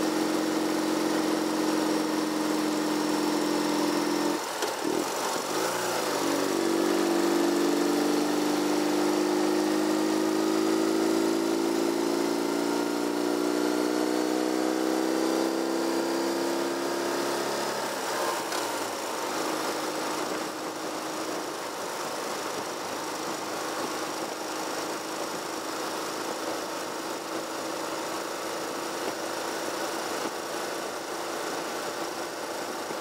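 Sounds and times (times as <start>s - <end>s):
road and wind noise: 0.0s - 33.0s
vehicle engine under load: 0.0s - 33.0s.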